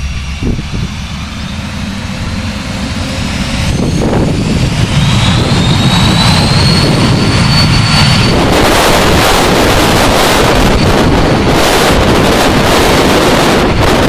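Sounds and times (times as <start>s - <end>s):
high whine rising in pitch: 0.0s - 14.0s
jet engines spooling up: 0.0s - 14.0s
jet exhaust rush: 0.0s - 14.0s.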